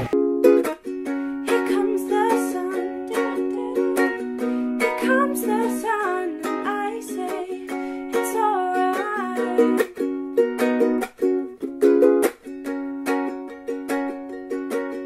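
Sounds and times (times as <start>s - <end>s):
light plucked string tune: 0.0s - 15.0s.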